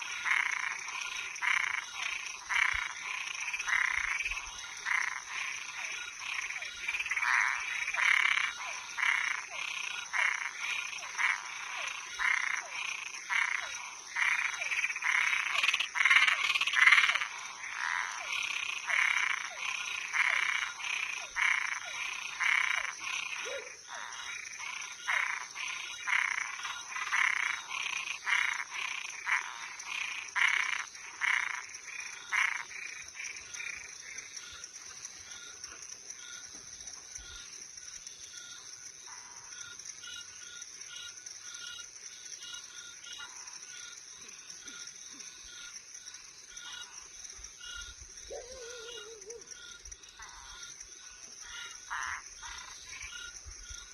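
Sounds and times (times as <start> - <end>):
frogs croaking: 0.0 - 53.9.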